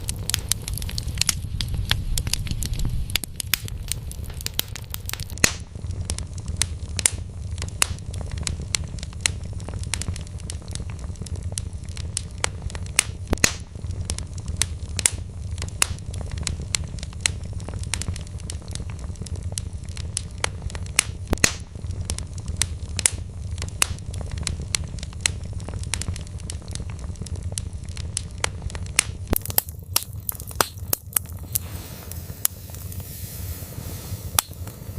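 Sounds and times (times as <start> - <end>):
burning logs crackling and popping: 0.0 - 34.9
low rumble of flames: 0.0 - 34.9.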